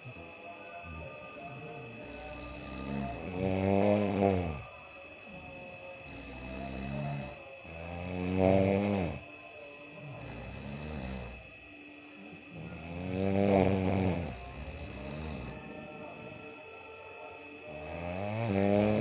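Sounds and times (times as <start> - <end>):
man snoring loudly: 0.0 - 11.6, 12.2 - 16.0, 17.4 - 19.0.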